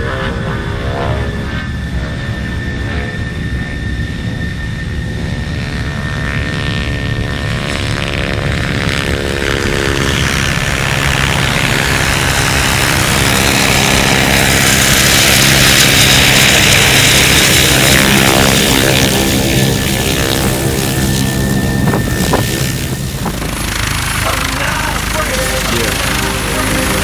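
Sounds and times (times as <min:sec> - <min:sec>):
helicopter rotor and engine: 0:00.0 - 0:27.0.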